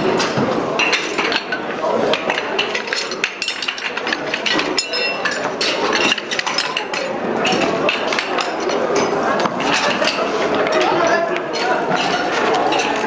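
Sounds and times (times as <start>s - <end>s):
metal hose couplings clanking: 0.8s - 13.0s.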